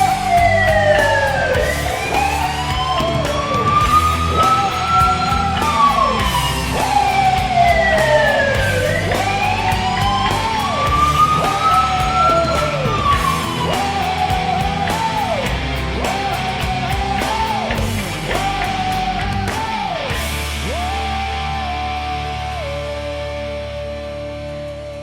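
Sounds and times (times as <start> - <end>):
rock music with heavy beat: 0.0 - 24.5.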